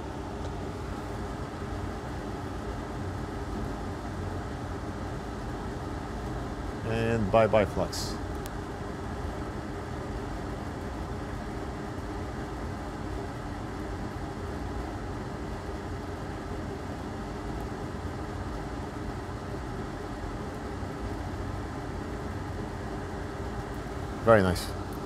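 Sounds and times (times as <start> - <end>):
machine hum: 0.0 - 25.0.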